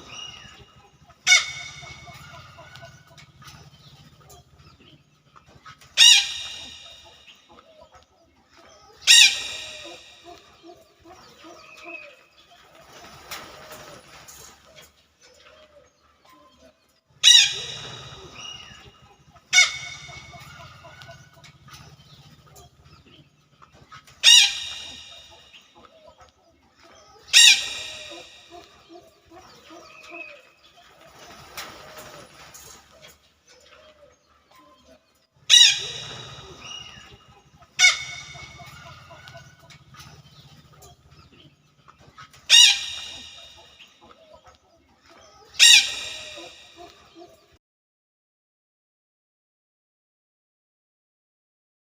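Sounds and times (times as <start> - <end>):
soft chicken clucks: 0.0 - 12.8, 14.6 - 31.4, 32.8 - 47.6
chickens calling loudly: 0.0 - 47.6.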